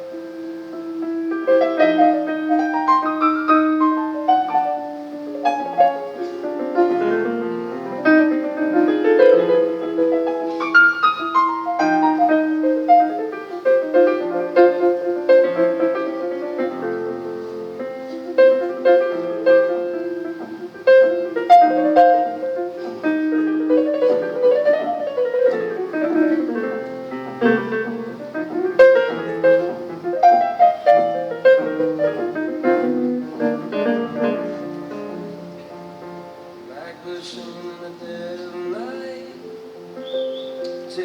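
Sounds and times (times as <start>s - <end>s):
piano playing: 0.0s - 41.0s.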